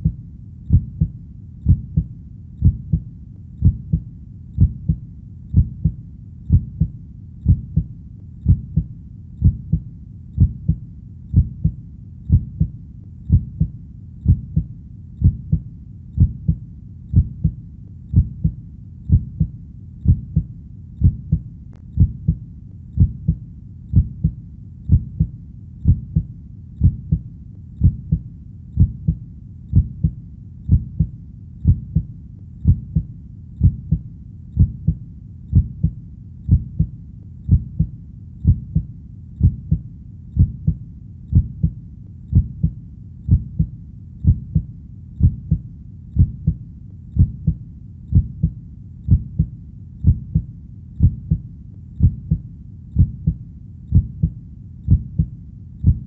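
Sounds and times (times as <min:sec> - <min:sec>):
faint low rumble: 0:00.0 - 0:56.0
heartbeat thumps: 0:00.0 - 0:56.0.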